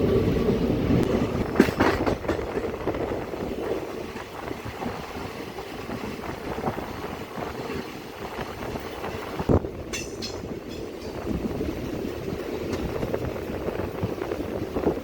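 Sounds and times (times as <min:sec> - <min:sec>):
train rumble from on board: 0:00.0 - 0:15.0
wheels and couplings clanking: 0:00.0 - 0:15.0.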